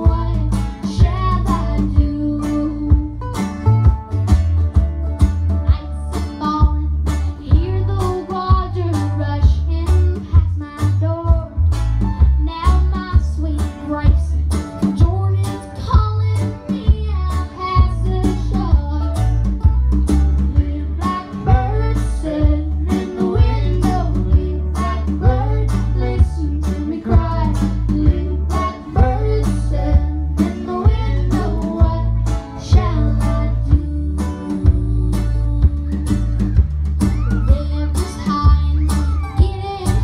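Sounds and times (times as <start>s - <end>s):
girl singing lead: 0.0s - 3.5s, 5.6s - 19.5s, 20.1s - 40.0s
acoustic guitar: 0.0s - 40.0s
mandolin: 0.0s - 40.0s
plucked upright bass: 0.0s - 40.0s.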